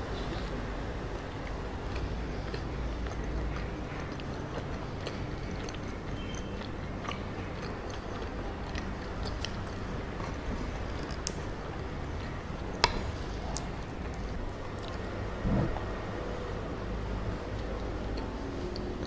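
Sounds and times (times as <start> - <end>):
chewing soft food: 0.0 - 15.8.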